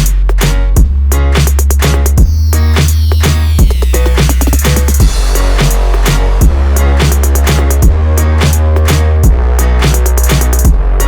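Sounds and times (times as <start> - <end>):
heavy kick drum: 0.0 - 11.0
sustained bass: 0.0 - 11.0
ticking hi-hats: 0.0 - 11.0.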